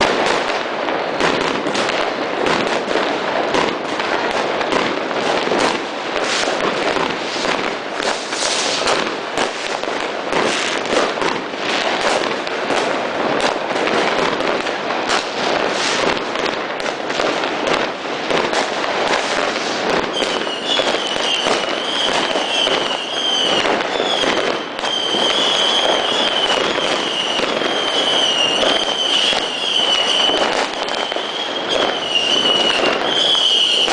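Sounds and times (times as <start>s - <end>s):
firecrackers crackling and banging: 0.0s - 33.9s.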